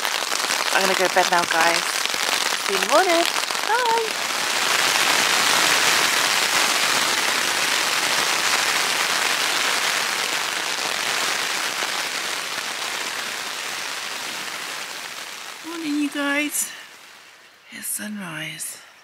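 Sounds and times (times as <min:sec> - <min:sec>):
rain on tent fabric: 0:00.0 - 0:18.7.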